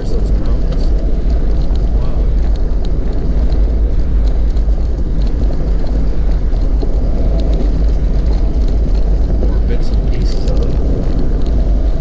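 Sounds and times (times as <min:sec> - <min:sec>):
light ticks and rattles: 0:00.0 - 0:12.0
vehicle rumbling on gravel road: 0:00.0 - 0:12.0.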